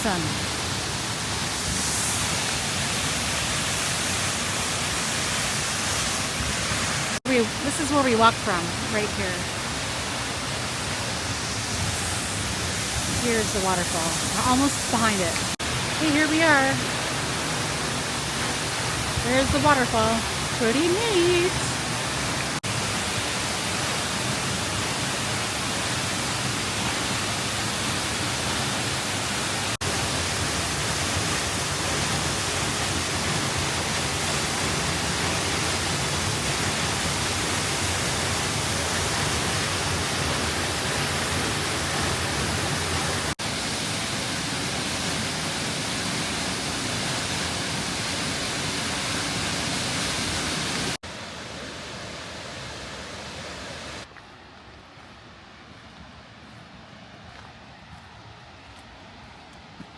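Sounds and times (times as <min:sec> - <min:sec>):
waterfall crashing: 0:00.0 - 0:52.9.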